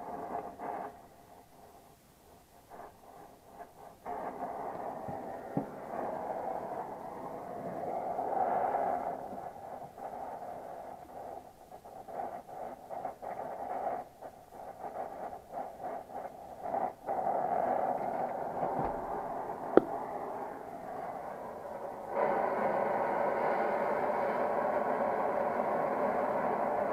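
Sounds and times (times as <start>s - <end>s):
torch flame hissing: 0.0s - 26.9s.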